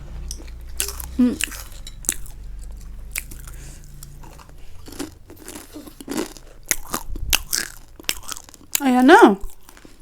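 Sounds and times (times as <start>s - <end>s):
soft chewing: 0.2s - 10.0s
crunching snack food: 0.3s - 10.0s.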